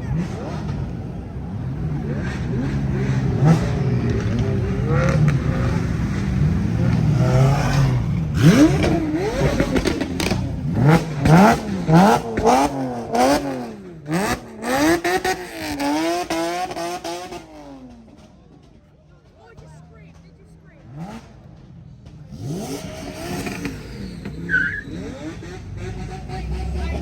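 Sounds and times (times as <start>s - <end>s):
sports car engine revving: 0.0s - 27.0s
exhaust pops: 3.4s - 25.6s.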